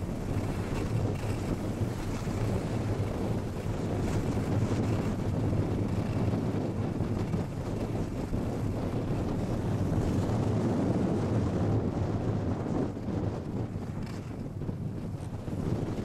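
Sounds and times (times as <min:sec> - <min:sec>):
skis sliding over packed snow: 0:00.0 - 0:16.0
wind rush on microphone: 0:00.0 - 0:16.0.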